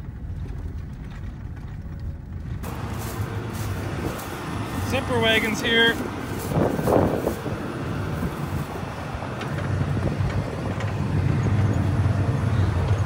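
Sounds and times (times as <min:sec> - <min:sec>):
diesel engine running: 0:00.0 - 0:13.0
wind noise on microphone: 0:00.0 - 0:13.0.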